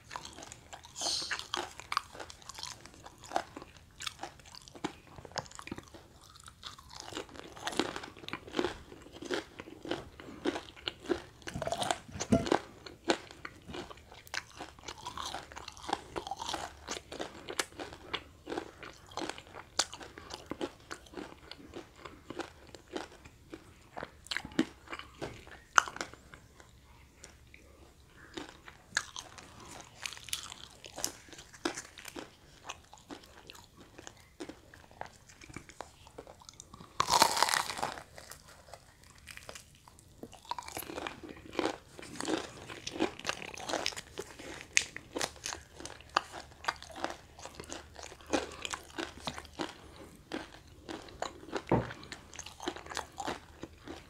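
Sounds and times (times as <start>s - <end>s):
crunching fried snacks: 0.0s - 27.4s, 28.0s - 54.0s
chewing: 0.0s - 54.0s.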